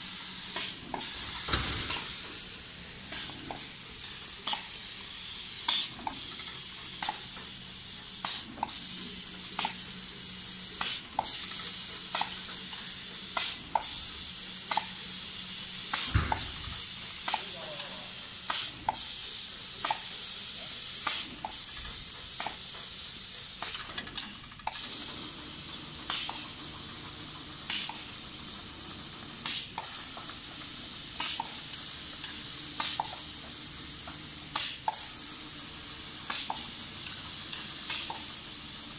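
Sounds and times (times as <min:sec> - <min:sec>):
spray gun hissing: 0:00.0 - 0:25.4, 0:27.6 - 0:38.9.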